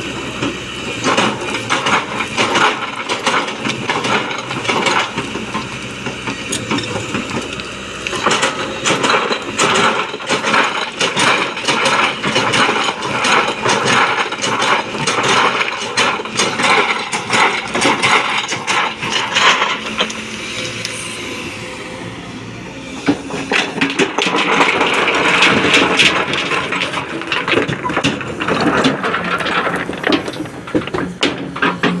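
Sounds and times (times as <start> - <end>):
excavator clattering and rattling: 0.0 - 32.0.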